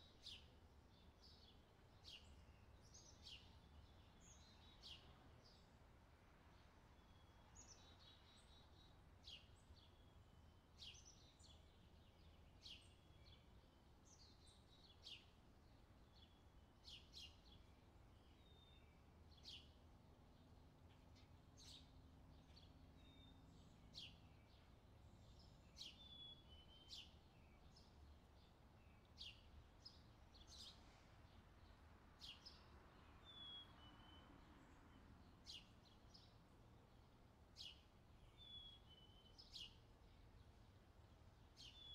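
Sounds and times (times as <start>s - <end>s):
low steady background rumble: 0.0s - 41.9s.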